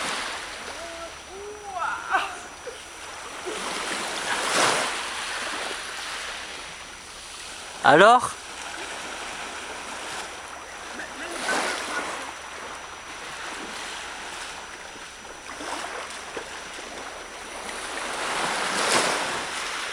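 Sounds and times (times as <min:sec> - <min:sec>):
small waves splashing: 0:00.0 - 0:19.9.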